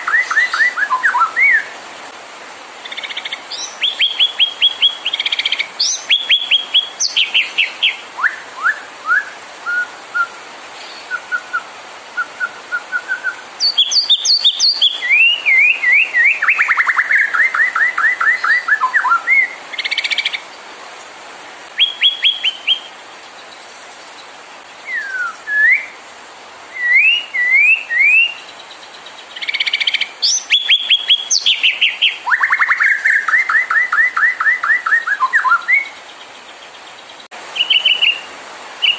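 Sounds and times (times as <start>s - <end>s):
bird singing varied song: 0.0s - 1.8s, 2.8s - 20.6s, 21.7s - 26.0s, 26.7s - 38.9s.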